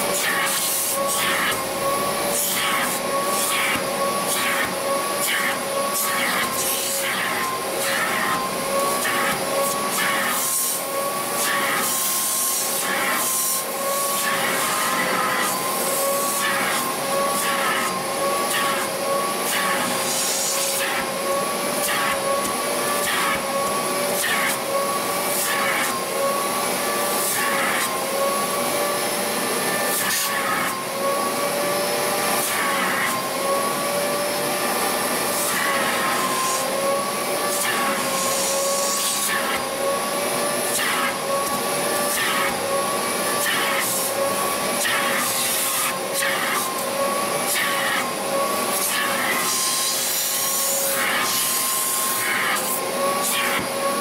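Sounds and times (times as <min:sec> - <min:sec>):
vacuum cleaner motor whine: 0:00.0 - 0:54.0.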